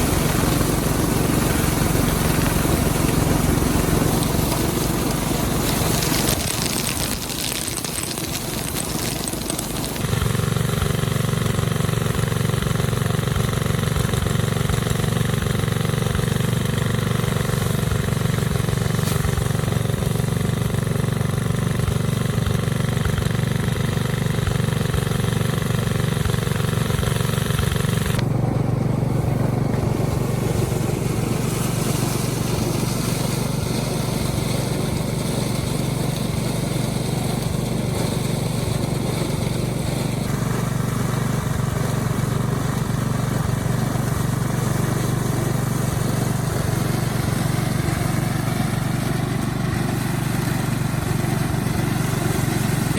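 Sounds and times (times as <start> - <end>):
small engine running: 0.0 - 52.9.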